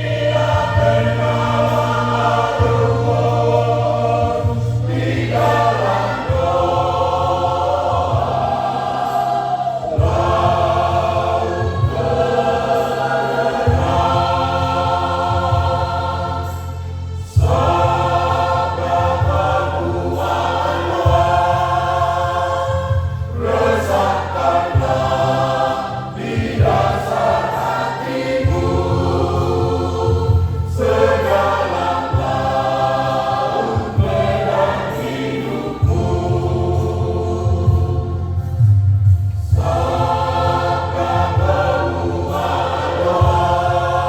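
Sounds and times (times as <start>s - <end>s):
church choir singing a hymn: 0.0s - 44.0s
low held bass notes: 0.0s - 44.0s.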